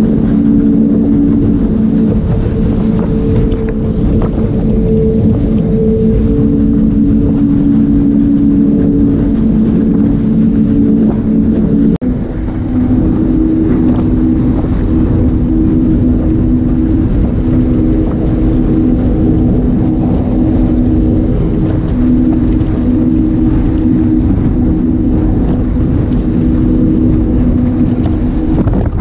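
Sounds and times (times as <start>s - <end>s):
outboard engines running: 0.0s - 29.0s
rushing water noise: 0.0s - 29.0s.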